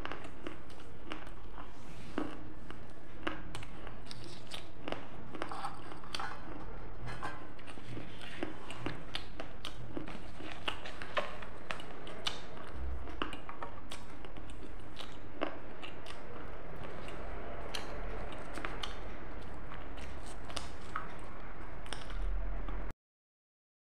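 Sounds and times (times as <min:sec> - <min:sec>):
person chewing crunchily: 0:00.0 - 0:22.8.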